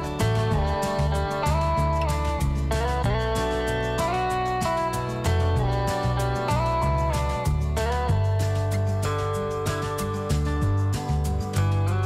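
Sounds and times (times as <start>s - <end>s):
guitar-led background music: 0.0s - 12.0s.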